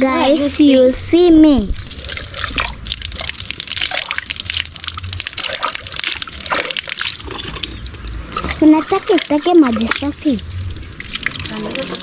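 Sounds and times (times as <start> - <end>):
water gushing and splashing: 1.4 - 12.0.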